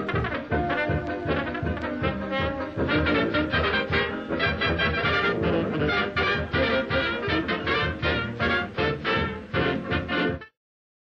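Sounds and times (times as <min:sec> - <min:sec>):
upbeat swing music with brass: 0:00.0 - 0:10.5.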